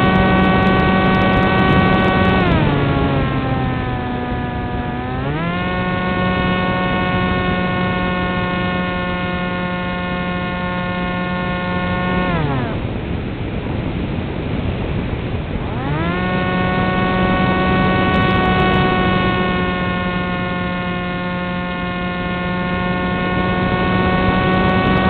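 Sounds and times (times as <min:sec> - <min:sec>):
electric motor and propeller whine: 0:00.0 - 0:25.0.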